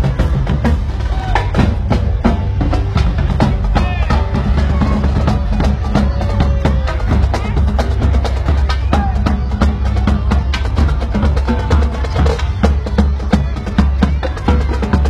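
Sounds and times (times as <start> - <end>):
heavy bass beat: 0.0 - 15.0
loud parade music: 0.0 - 15.0
voices: 0.0 - 15.0.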